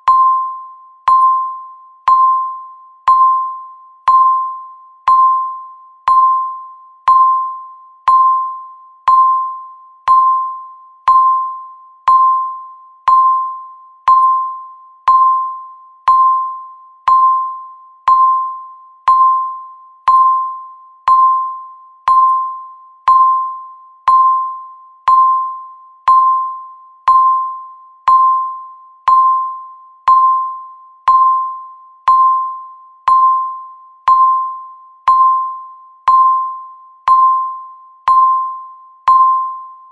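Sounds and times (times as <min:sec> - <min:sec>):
electronic timer beeps: 0:00.0 - 0:39.9.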